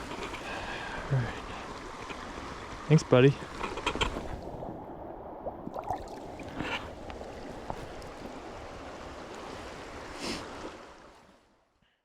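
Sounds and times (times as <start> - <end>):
creek running over rocks: 0.0 - 11.6.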